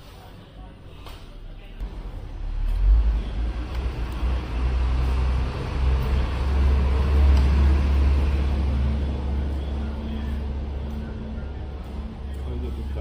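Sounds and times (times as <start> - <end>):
low engine rumble: 0.4 - 13.0.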